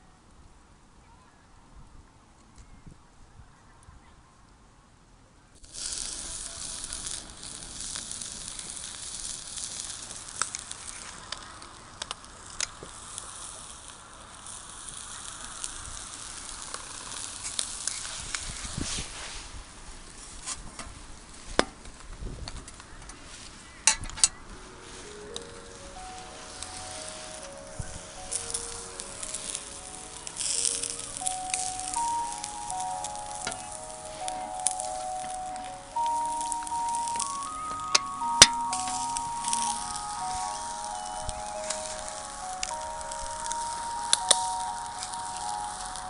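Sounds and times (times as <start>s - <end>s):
food sizzling on a hot pan: 5.6s - 21.6s, 23.5s - 46.0s.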